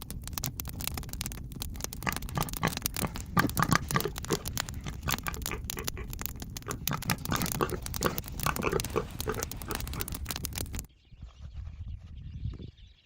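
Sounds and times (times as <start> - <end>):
dense crackling and scraping: 0.0 - 10.9.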